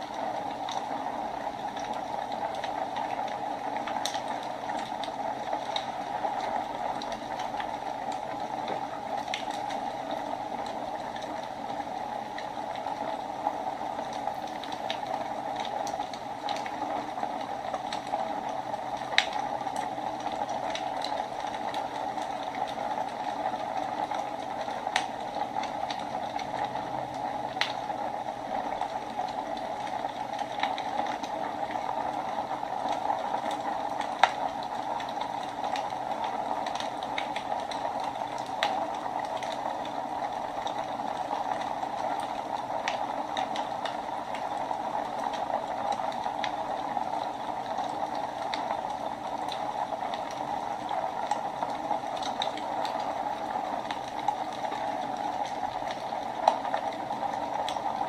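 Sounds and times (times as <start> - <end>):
wood fire crackling with pops: 0.0 - 58.0.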